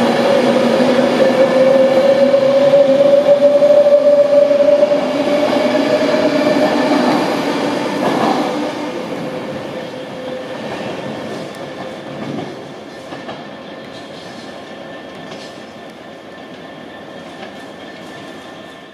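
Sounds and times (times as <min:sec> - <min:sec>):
electric train whine: 0:00.0 - 0:18.9
train wheels rolling: 0:00.0 - 0:18.9.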